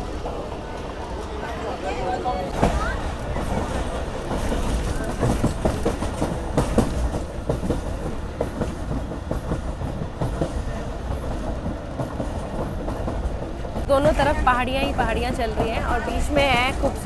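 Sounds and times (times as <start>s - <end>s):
clickety-clack of wheels on rails: 0.0s - 17.0s
train rumble: 0.0s - 17.0s.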